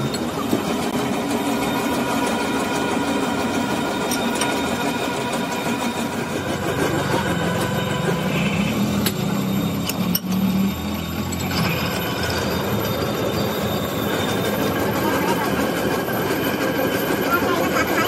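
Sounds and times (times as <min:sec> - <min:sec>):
factory machinery humming: 0:00.0 - 0:18.0.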